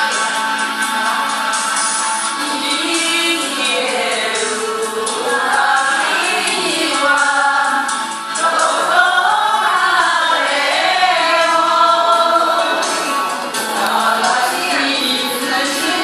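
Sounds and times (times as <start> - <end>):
group of voices singing: 0.0 - 16.0.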